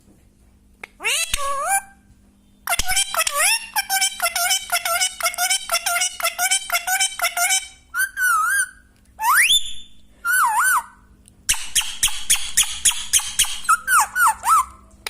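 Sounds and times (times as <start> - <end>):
parrot chattering: 0.9 - 2.0, 2.7 - 9.5, 10.3 - 14.8
parrot whistling: 2.7 - 14.8.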